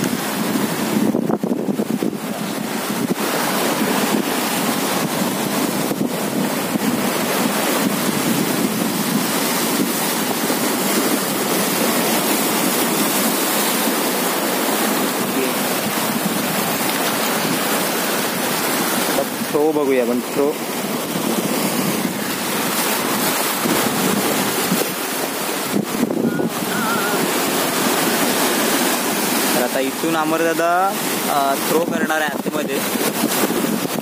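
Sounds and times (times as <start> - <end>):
wind noise on microphone: 0.0 - 30.2, 30.9 - 34.0
sea surf washing on shore: 0.0 - 34.0.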